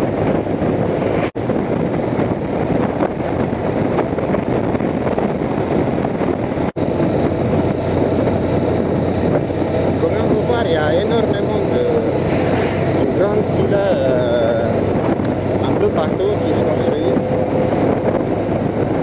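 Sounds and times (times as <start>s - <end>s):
motorcycle engine running: 0.0s - 19.0s
wind rush on microphone: 0.0s - 19.0s.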